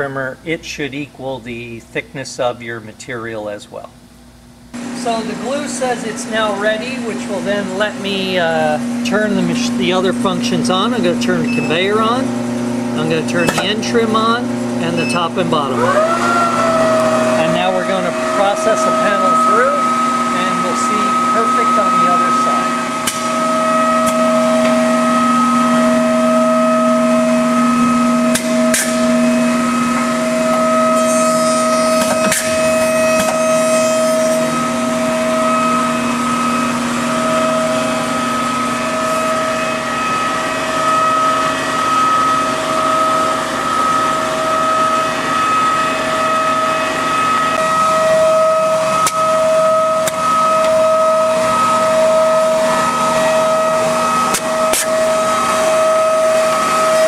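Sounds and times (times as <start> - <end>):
machine hum and whine: 0.0 - 57.0.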